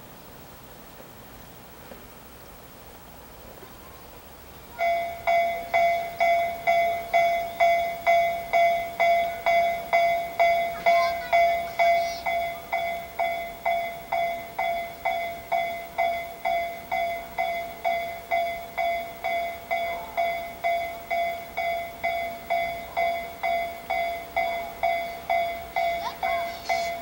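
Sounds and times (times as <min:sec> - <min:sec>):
level-crossing warning bell: 0:04.7 - 0:27.0.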